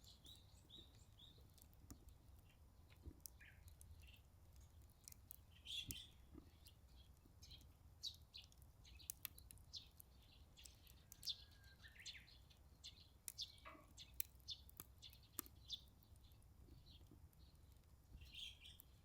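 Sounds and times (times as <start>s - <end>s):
burning wood popping and crackling: 0.0s - 19.0s
small bird chirping: 0.0s - 19.0s.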